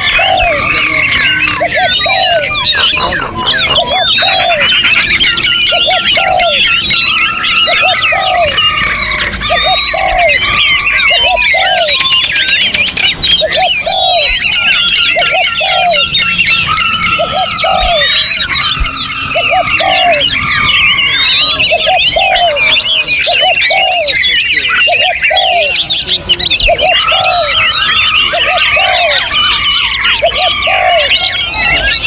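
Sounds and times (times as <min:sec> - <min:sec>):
dove cooing: 0:00.0 - 0:32.0
songbirds chorus: 0:00.0 - 0:32.0.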